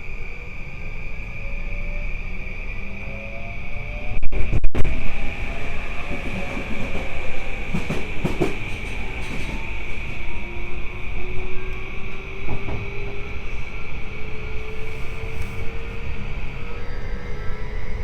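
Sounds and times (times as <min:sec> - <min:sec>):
electric train rolling on rails: 0:00.0 - 0:18.0.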